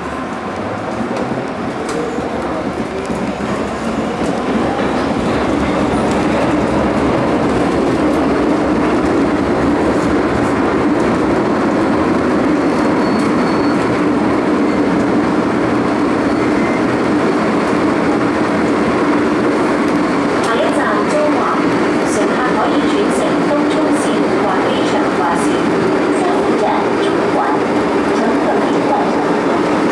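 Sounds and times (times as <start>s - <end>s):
train electric hum: 0.0s - 29.9s
train wheels rumbling on rail: 0.0s - 29.9s.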